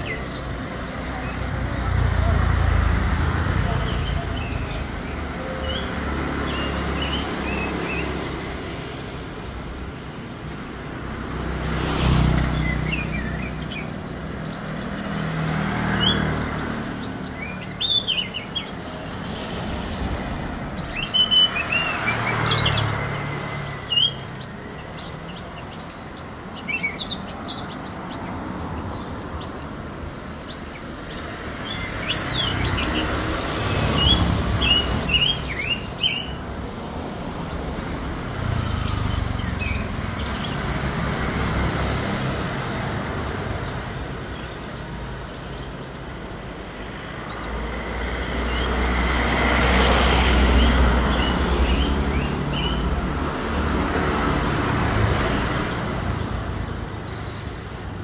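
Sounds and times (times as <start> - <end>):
passing road traffic: 0.0 - 58.0
songbirds chirping and trilling: 0.0 - 58.0.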